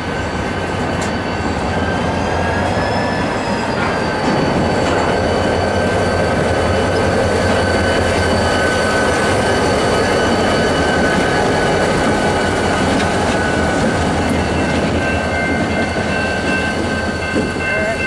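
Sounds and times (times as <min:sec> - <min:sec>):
freight train rumbling: 0:00.0 - 0:18.0
high-pitched squeal: 0:00.0 - 0:18.0.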